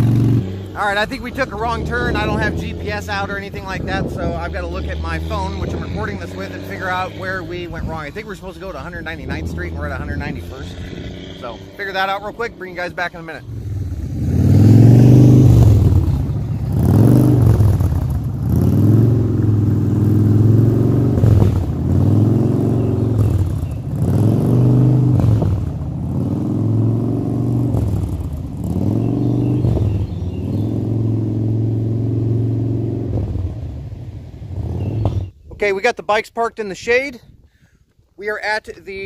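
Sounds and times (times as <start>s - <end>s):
motorcycle engines running: 0.0s - 35.6s.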